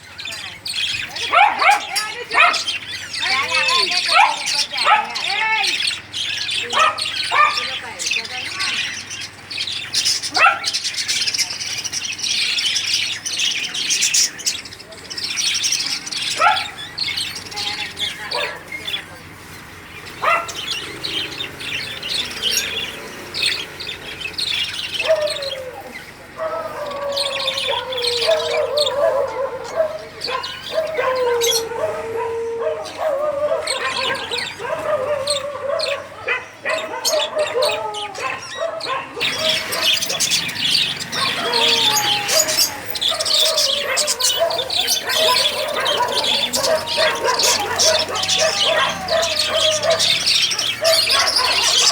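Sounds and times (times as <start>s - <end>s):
birds chirping and chattering: 0.0s - 51.9s.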